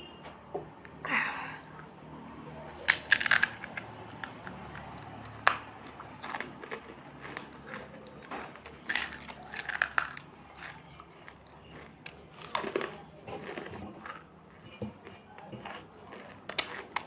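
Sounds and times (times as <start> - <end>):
crunching and chewing crisp shells: 1.6 - 17.0.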